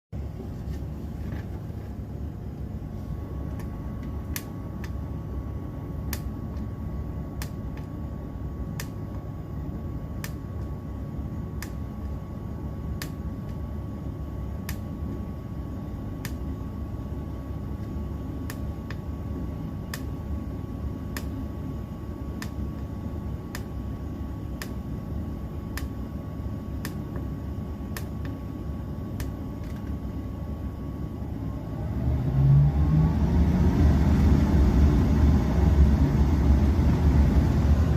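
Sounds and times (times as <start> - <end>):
furnace blower humming: 0.1 - 37.9
thin steady whine: 0.2 - 37.9.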